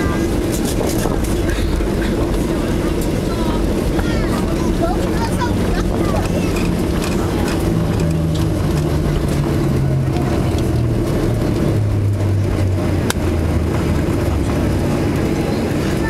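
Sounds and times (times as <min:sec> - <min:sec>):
runway rollout rumble: 0:00.0 - 0:16.0.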